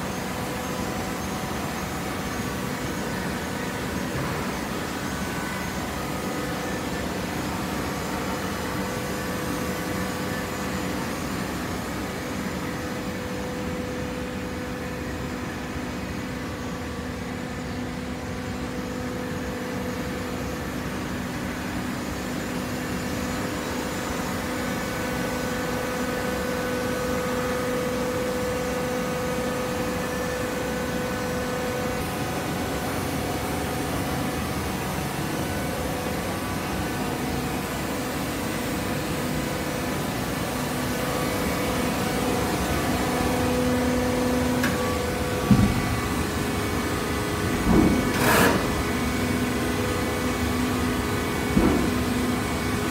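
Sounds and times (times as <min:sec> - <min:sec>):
baler machine humming: 0:00.0 - 0:52.9.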